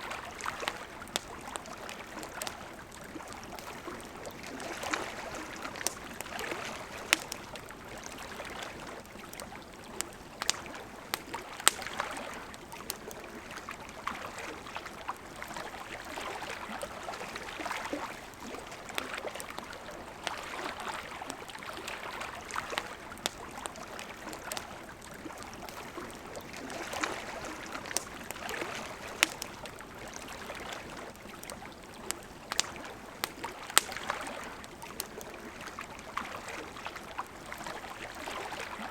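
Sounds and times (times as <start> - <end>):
campfire crackling: 0.0 - 38.9
river water running: 0.0 - 38.9.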